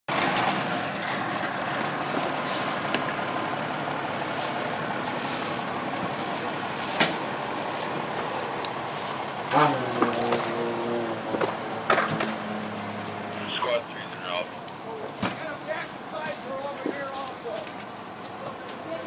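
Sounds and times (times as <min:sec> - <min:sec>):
vehicle engine hissing: 0:00.1 - 0:19.0.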